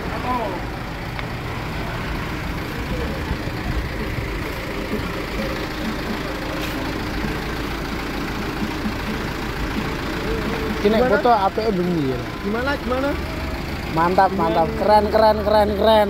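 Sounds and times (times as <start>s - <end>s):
faint voices: 0.0s - 16.0s
truck engine idling: 0.0s - 16.0s.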